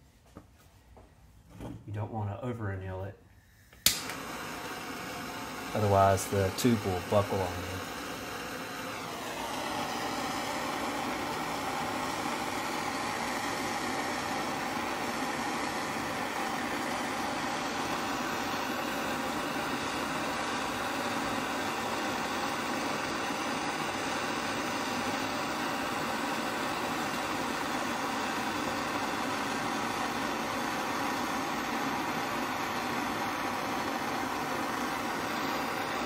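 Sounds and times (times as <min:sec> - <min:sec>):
gas torch flame burning: 0:03.6 - 0:36.0.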